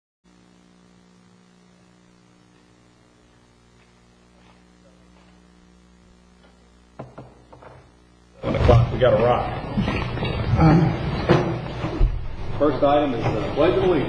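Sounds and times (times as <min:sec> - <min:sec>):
faint mains hum: 0:00.3 - 0:14.0
faint room noises: 0:00.3 - 0:14.0.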